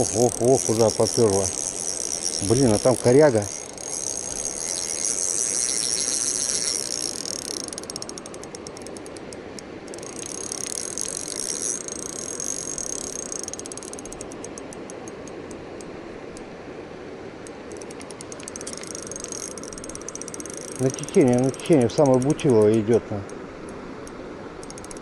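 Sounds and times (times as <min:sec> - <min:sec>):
fishing reel drag buzzing and clicking: 0:00.0 - 0:15.4, 0:17.7 - 0:23.2, 0:24.6 - 0:25.0.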